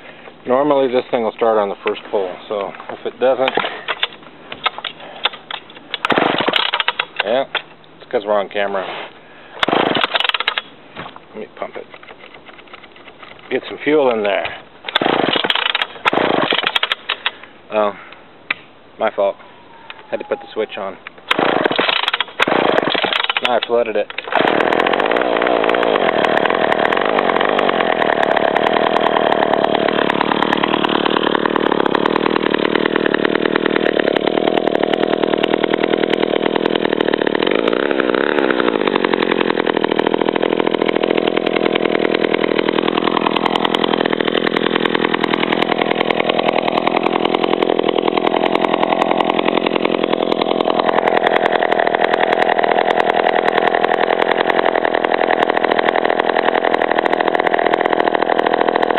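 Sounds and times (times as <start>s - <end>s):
chainsaw engine running: 0.0s - 18.2s, 20.3s - 58.9s.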